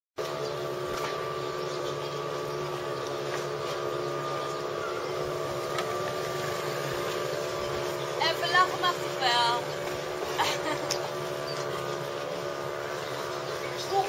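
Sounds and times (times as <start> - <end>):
engine droning steadily: 0.2 - 14.0.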